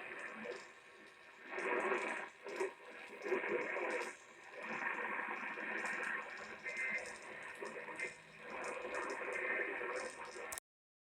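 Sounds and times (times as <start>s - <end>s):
static hiss: 0.0s - 10.6s.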